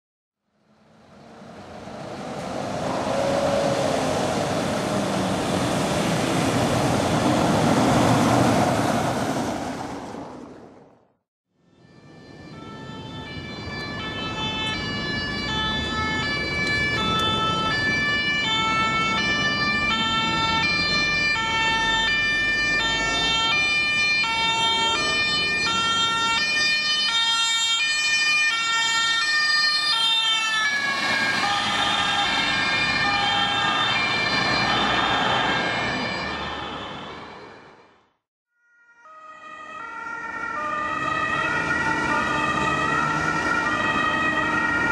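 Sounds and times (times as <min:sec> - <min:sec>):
traffic noise: 0:00.4 - 0:38.2, 0:39.0 - 0:44.9
two-tone emergency siren: 0:02.6 - 0:05.8, 0:11.5 - 0:44.9.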